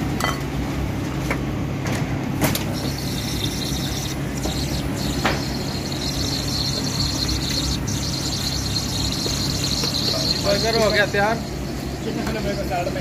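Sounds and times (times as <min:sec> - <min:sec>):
kitchen machinery drone: 0:00.0 - 0:13.0
high steady whine: 0:02.4 - 0:13.0.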